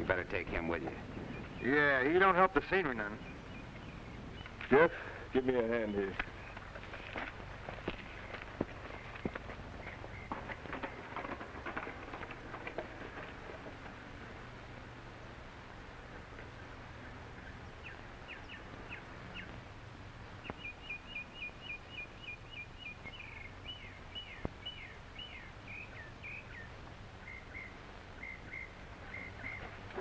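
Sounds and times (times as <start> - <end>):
songbird chirping: 0.0 - 14.3, 16.4 - 30.0.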